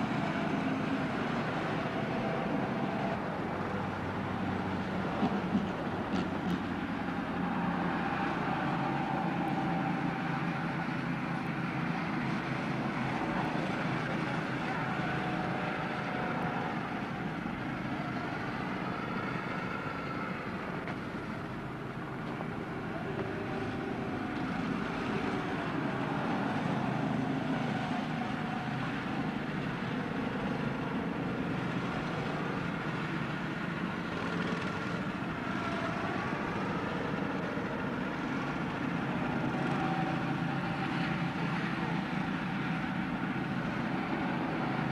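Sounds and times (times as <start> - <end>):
go-kart engines running: 0.0 - 44.9.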